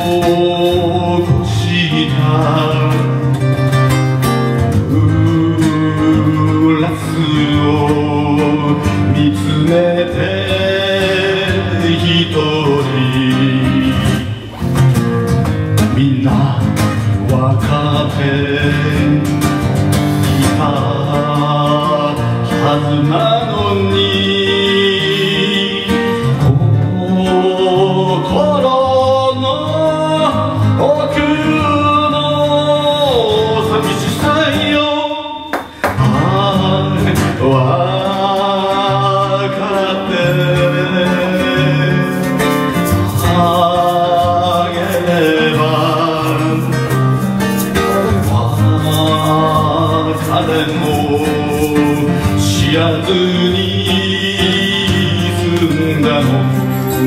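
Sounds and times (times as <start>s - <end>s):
acoustic guitar: 0.0s - 57.0s
man singing: 0.0s - 57.0s.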